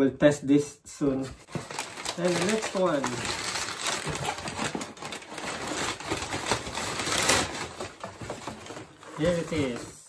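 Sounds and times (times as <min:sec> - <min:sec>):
packing paper rustling and crinkling: 0:01.2 - 0:10.0.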